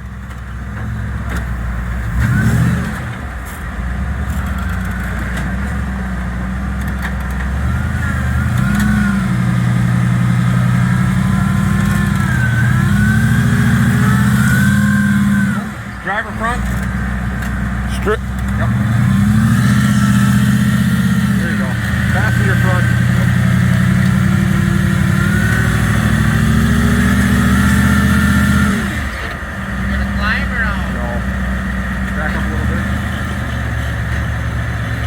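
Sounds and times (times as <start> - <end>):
engine revving under load: 0.0 - 35.0.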